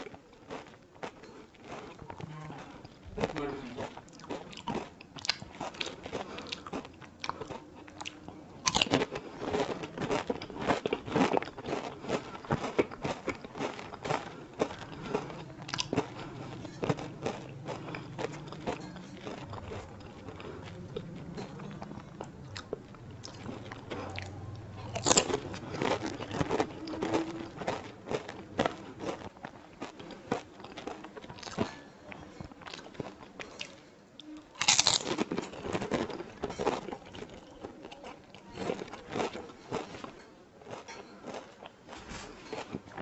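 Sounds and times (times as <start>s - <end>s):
crunchy shells being chewed: 0.0s - 43.0s.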